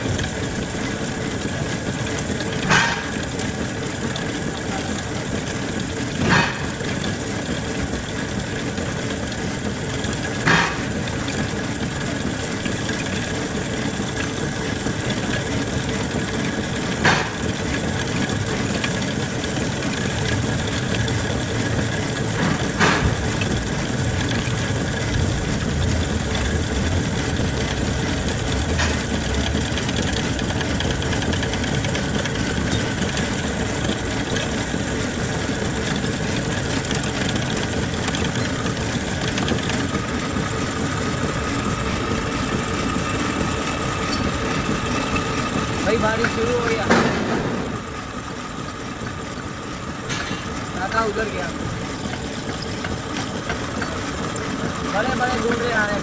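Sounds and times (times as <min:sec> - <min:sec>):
lathe machine humming: 0:00.0 - 0:56.0.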